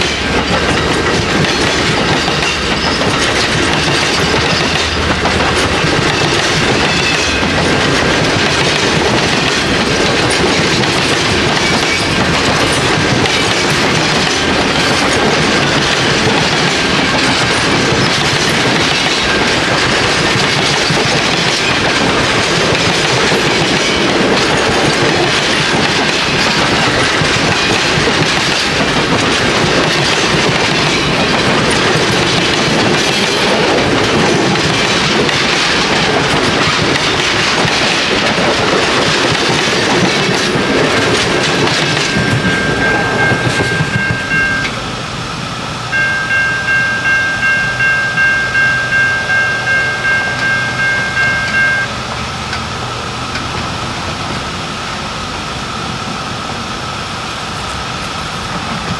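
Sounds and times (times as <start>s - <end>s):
train wheels rushing on rail: 0.0s - 58.9s.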